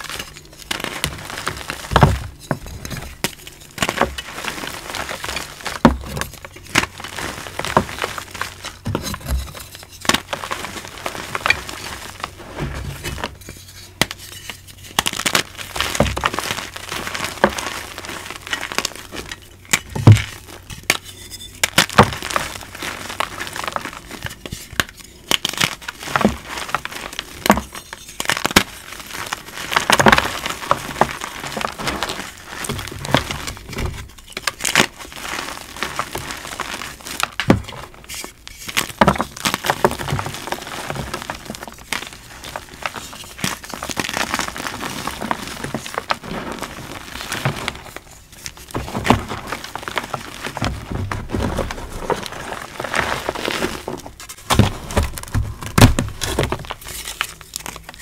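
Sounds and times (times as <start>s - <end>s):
hands crushing chalk blocks: 0.0s - 58.0s.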